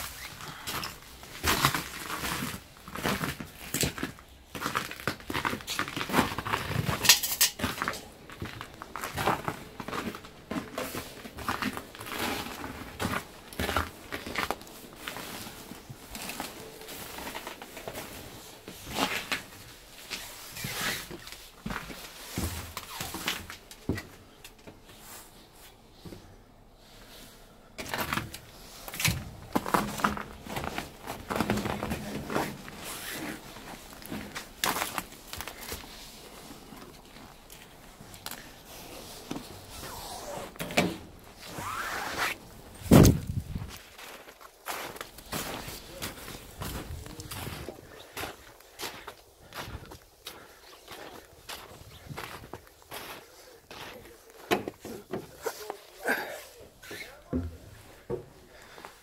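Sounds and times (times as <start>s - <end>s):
footsteps crunching on glass: 0.1s - 23.7s, 27.8s - 39.7s, 42.4s - 58.8s.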